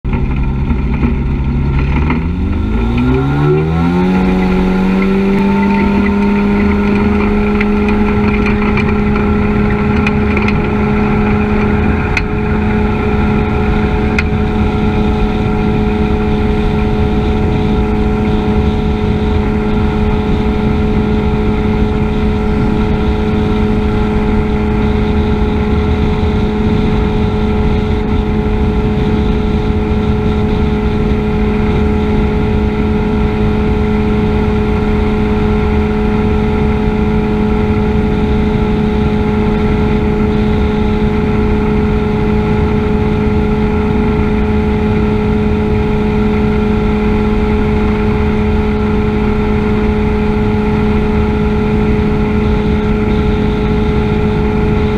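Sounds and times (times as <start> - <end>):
ultralight engine and propeller: 0.0 - 54.9.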